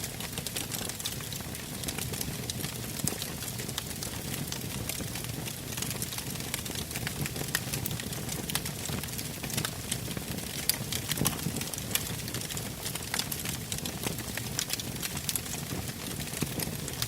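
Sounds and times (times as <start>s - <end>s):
campfire crackling and popping: 0.0s - 17.0s
low rumble of flame: 0.0s - 17.0s.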